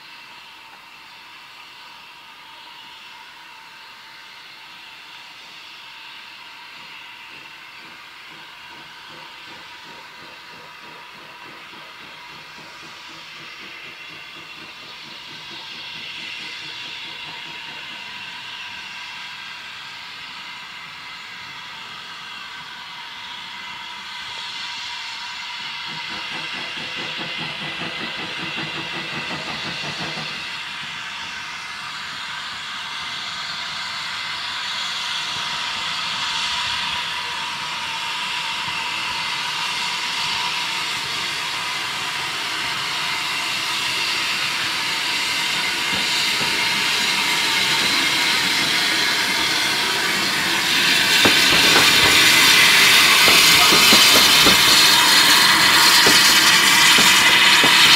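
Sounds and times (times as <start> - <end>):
steam locomotive hissing: 0.0 - 57.9.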